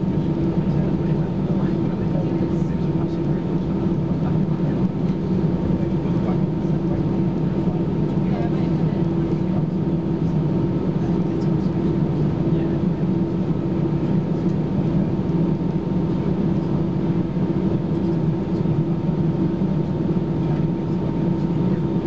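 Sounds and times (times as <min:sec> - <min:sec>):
airplane cabin drone: 0:00.0 - 0:22.0.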